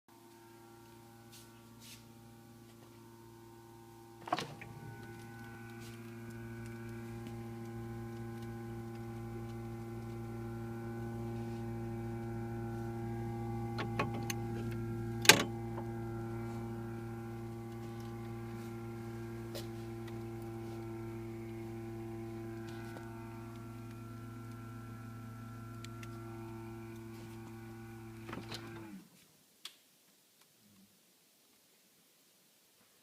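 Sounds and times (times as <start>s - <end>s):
refrigerator hum: 0.2s - 29.0s.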